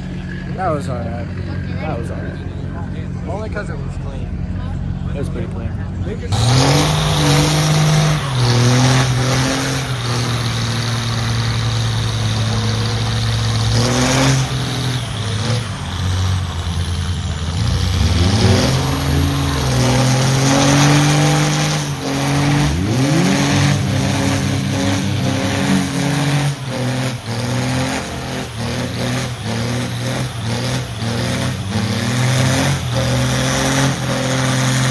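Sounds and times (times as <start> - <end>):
truck engines revving: 0.0 - 34.9.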